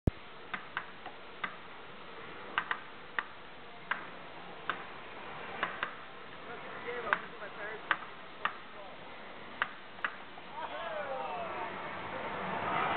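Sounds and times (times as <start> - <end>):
steady background hiss: 0.1 - 12.9.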